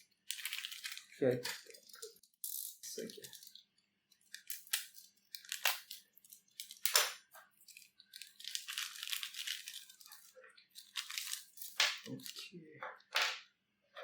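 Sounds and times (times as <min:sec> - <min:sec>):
packaging rustling and crinkling: 0:00.0 - 0:12.5.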